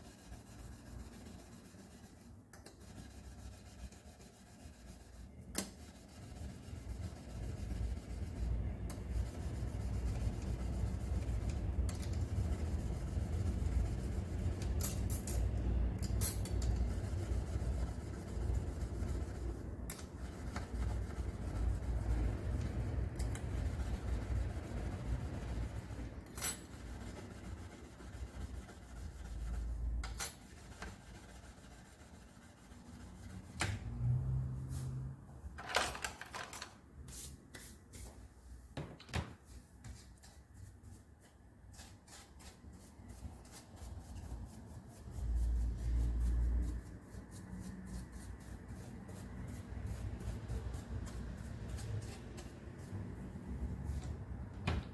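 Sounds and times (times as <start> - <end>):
hand sanding strokes: 0.0 - 14.8, 16.6 - 33.6, 39.9 - 54.0.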